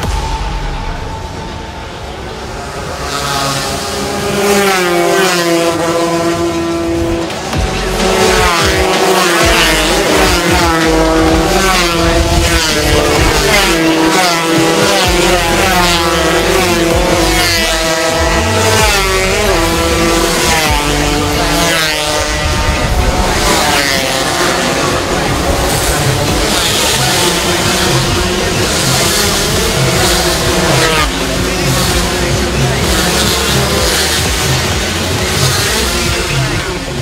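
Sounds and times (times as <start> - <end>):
racing motorcycle engines wailing: 0.0 - 37.0.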